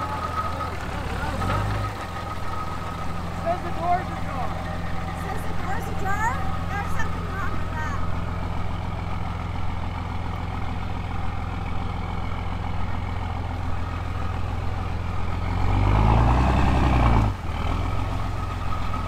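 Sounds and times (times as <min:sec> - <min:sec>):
diesel truck engine idling and revving: 0:00.0 - 0:19.0.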